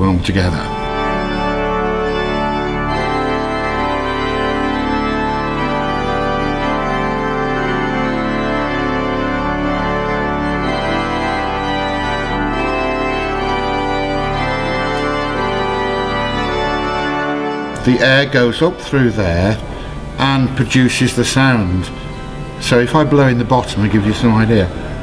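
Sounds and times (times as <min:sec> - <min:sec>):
pipe organ sustained chords: 0:00.0 - 0:25.0.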